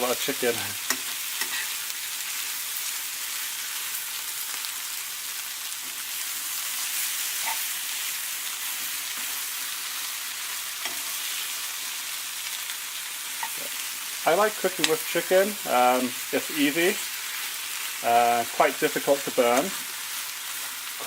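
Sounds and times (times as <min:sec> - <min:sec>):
chicken sizzling in a pan: 0:00.0 - 0:21.0.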